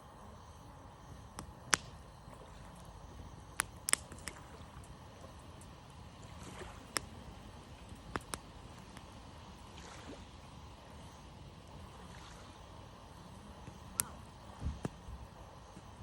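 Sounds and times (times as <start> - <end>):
campfire crackling: 0.0 - 16.0
faint background noise: 0.0 - 16.0.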